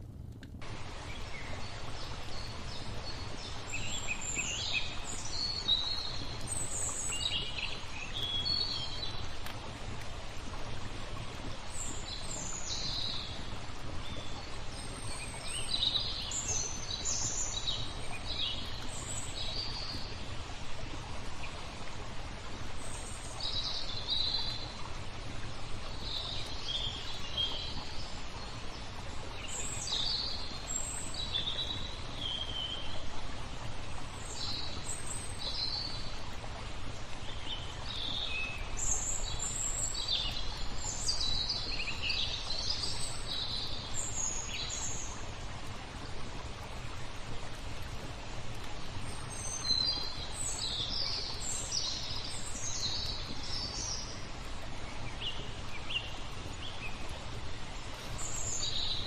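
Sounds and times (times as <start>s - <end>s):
flowing water: 0.0s - 59.0s
songbirds chirping and twittering: 0.6s - 59.0s.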